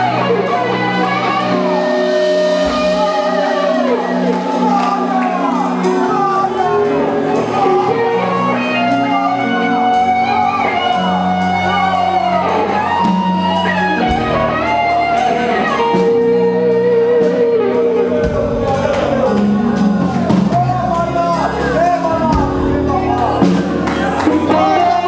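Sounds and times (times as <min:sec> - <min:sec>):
electric guitar: 0:00.0 - 0:20.6
bass guitar: 0:00.0 - 0:25.0
faint voices: 0:00.0 - 0:25.0.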